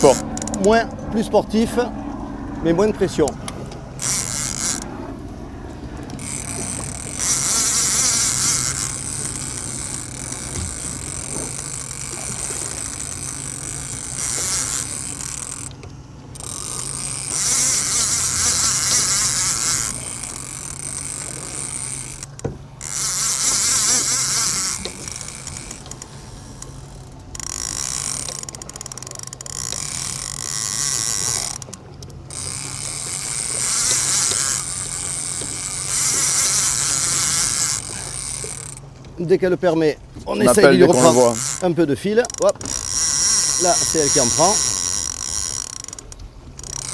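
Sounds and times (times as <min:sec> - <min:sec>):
fishing reel ratcheting: 0:00.0 - 0:01.0, 0:03.0 - 0:05.0, 0:06.0 - 0:38.9, 0:40.4 - 0:46.9
low hum: 0:00.0 - 0:39.2.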